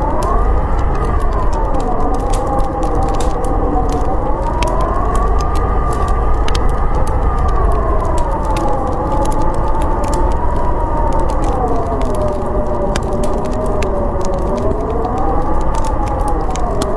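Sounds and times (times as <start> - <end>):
howling storm wind: 0.0 - 16.9
wood fire crackling and popping: 0.0 - 16.9.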